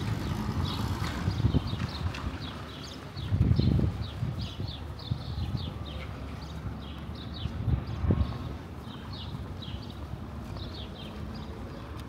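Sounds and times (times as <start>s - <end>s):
footsteps on stone paving: 0.0s - 12.0s.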